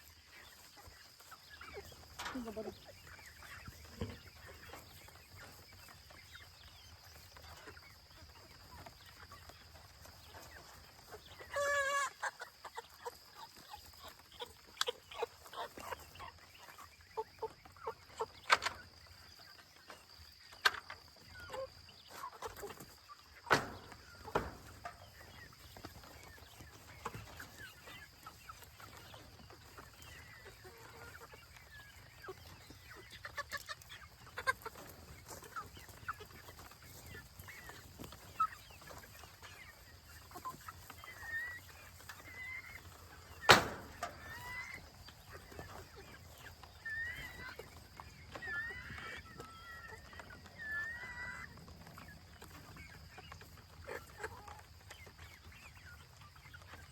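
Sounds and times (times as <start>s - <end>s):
young chickens clucking and peeping: 0.0s - 56.9s.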